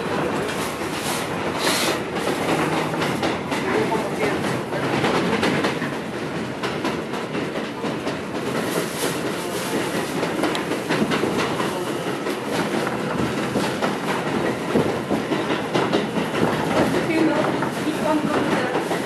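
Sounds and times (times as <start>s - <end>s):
subway train rumble: 0.0s - 19.0s
wheels clacking over rail joints: 0.0s - 19.0s.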